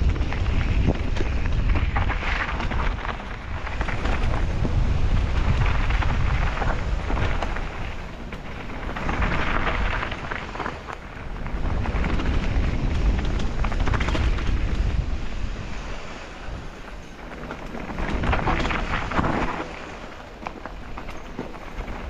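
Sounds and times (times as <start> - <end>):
bike rattling over rocks: 0.0 - 22.0
tyres crunching over gravel: 0.0 - 22.0
wind buffeting microphone: 0.0 - 22.0.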